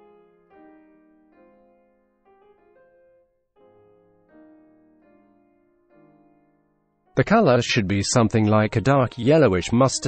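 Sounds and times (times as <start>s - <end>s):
faint piano music: 0.0s - 10.0s.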